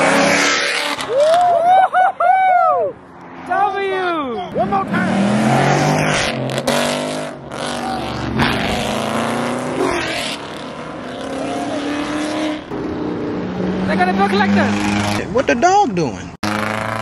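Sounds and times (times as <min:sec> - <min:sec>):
car engines revving loudly: 0:00.0 - 0:01.5, 0:03.2 - 0:17.0.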